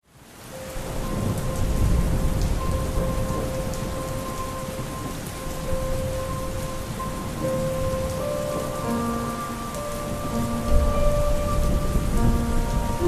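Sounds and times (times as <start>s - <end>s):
steady rain: 0.0s - 13.0s
slowed reverberant music: 0.5s - 13.0s
rumble of thunder: 0.8s - 13.0s.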